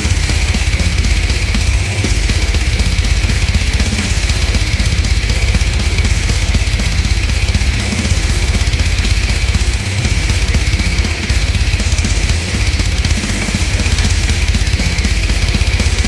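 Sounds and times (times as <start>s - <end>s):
distorted guitars: 0.0s - 16.0s
fast driving drums: 0.0s - 16.0s.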